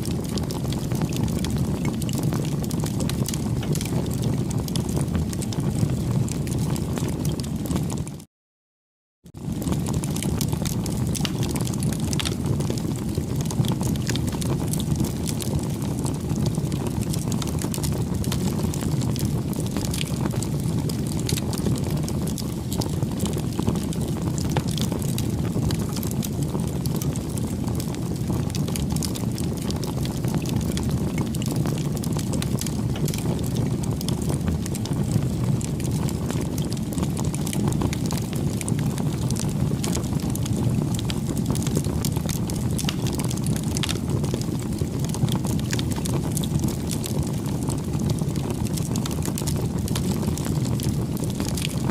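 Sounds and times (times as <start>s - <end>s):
campfire crackling: 0.0s - 8.0s, 9.3s - 51.9s.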